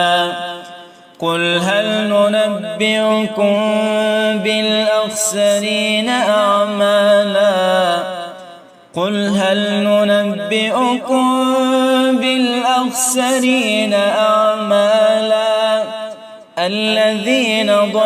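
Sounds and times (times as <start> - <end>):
man chanting melodically: 0.0 - 18.0.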